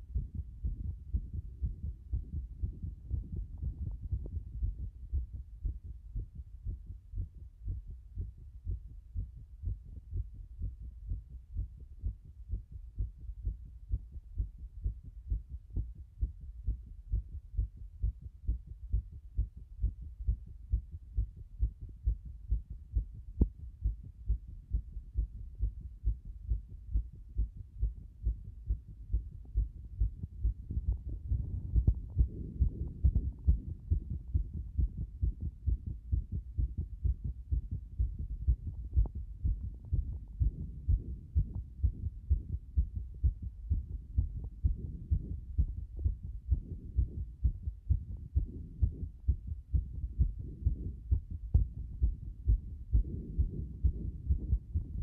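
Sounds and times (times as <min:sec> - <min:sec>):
fast heartbeat thumps: 0:00.0 - 0:55.0.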